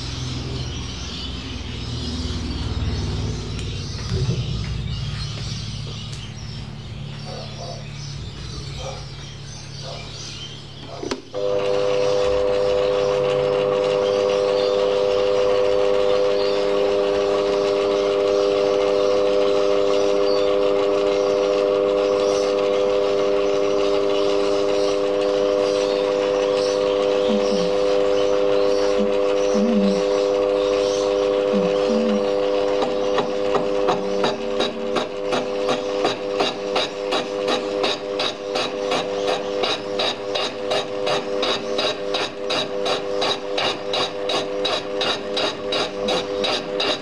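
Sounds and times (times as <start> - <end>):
lathe low hum: 0.0 - 47.0
ringing whine of lathe cutting: 0.0 - 47.0.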